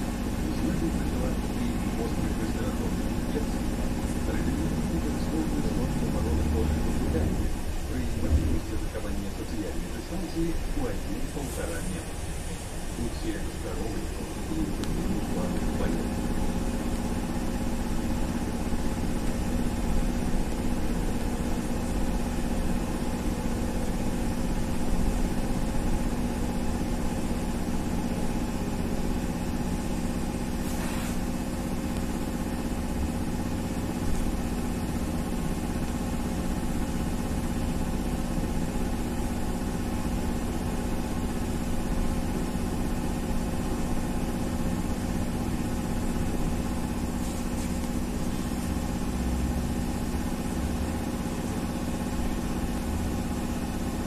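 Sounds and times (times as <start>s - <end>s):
electric motor hum: 0.0s - 54.0s
road rumble and hiss: 0.0s - 54.0s.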